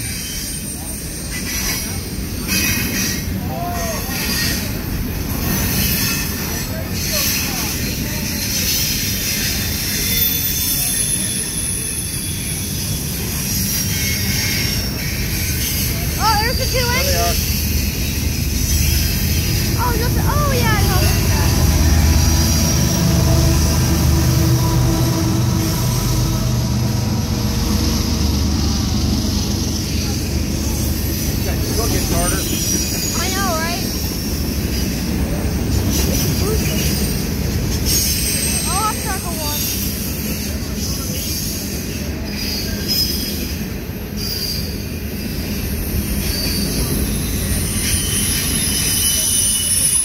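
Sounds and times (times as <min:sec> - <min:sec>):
locomotive engines rumbling: 0:00.0 - 0:50.0
steel wheels on rail: 0:00.0 - 0:50.0.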